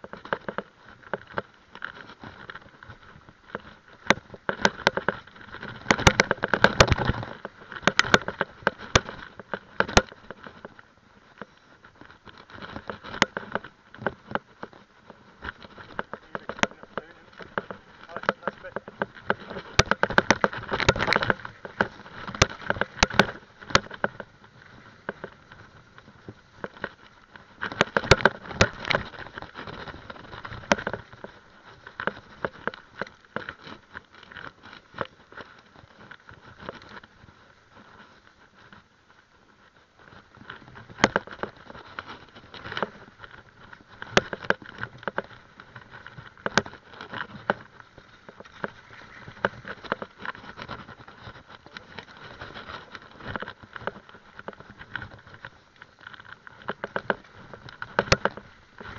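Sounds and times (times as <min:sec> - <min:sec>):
bike rattling over bumps: 0:00.0 - 0:58.9
bike tyres on dirt trail: 0:00.0 - 0:58.9.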